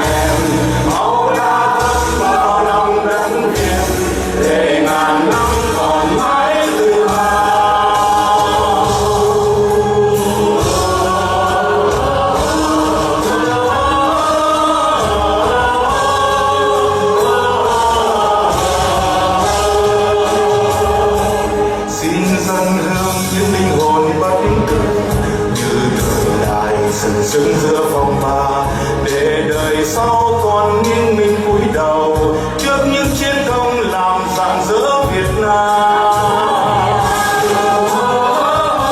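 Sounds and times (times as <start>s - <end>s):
choir singing: 0.0s - 38.9s
instrumental backing with beat: 0.0s - 38.9s.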